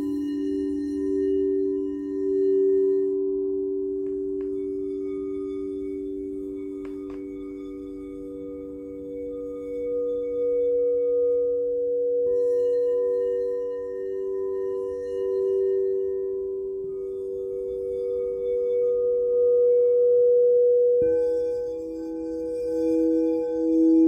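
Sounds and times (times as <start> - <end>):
singing bowls ringing: 0.0 - 24.0.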